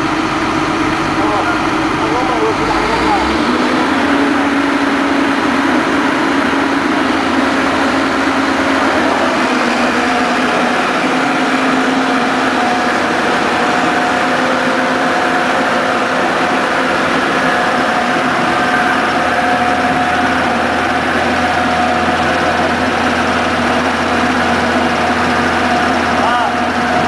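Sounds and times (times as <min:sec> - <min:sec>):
drilling rig engine hum: 0:00.0 - 0:27.0
higher tone: 0:00.0 - 0:27.0.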